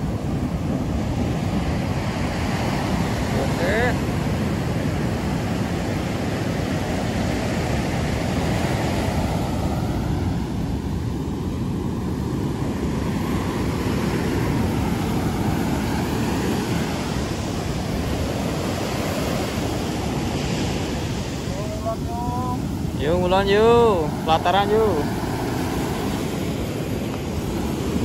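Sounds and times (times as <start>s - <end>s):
surf breaking on beach: 0.0s - 28.0s
wind buffeting microphone: 0.0s - 28.0s.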